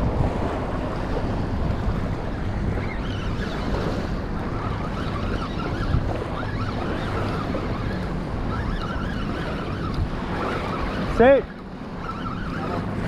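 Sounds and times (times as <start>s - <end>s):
small waves lapping at shore: 0.0s - 13.0s
wind buffeting microphone: 0.0s - 13.0s.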